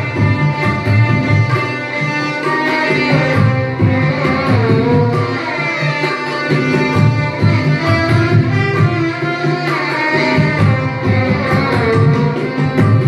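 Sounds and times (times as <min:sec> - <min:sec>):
tabla strokes: 0:00.0 - 0:13.0
violins playing melody: 0:00.0 - 0:13.0.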